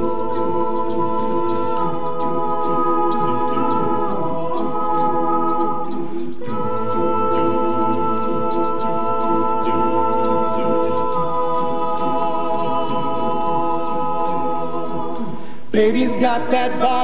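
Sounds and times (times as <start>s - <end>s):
male voices singing sustained chords: 0.0s - 17.0s
vocal percussion beat: 0.0s - 17.0s.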